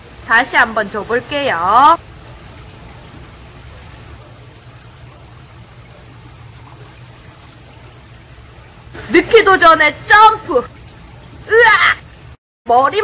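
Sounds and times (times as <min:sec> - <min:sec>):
water trickling and bubbling: 0:00.0 - 0:12.4.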